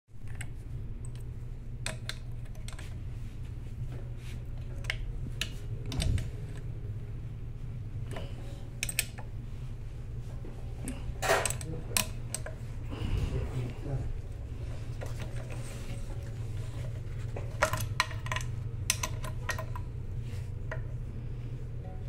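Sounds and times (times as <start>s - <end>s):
steady low hum: 0.1s - 22.0s.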